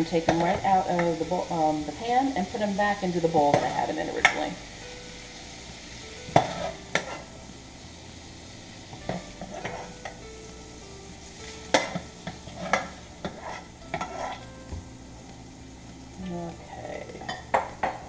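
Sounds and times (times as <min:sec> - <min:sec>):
oil sizzling in frying pan: 0:00.0 - 0:18.0.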